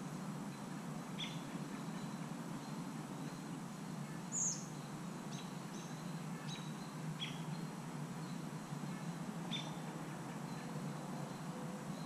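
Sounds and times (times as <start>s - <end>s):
bird chirping: 0.5s - 12.0s.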